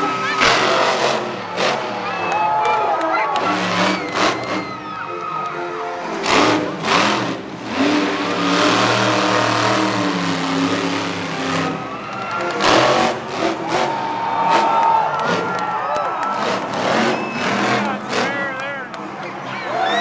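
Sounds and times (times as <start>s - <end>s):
monster truck engine revving: 0.0s - 5.0s, 6.0s - 20.0s.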